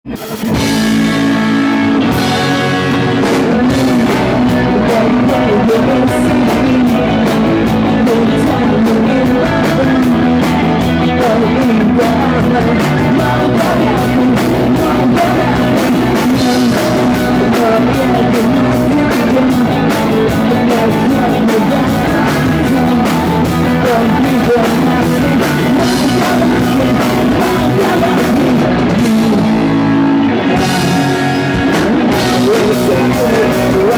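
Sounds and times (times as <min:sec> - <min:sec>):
bass guitar: 0:00.0 - 0:33.9
distorted electric guitars: 0:00.0 - 0:33.9
drum kit: 0:00.1 - 0:33.9
man singing into microphone: 0:02.0 - 0:33.9.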